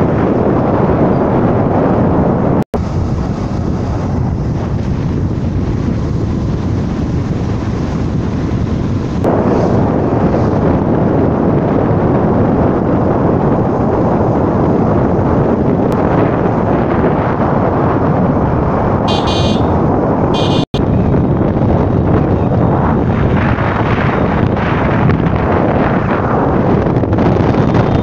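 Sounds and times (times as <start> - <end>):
motorcycle riding noise: 0.0 - 28.0
wind buffeting microphone: 0.0 - 28.0.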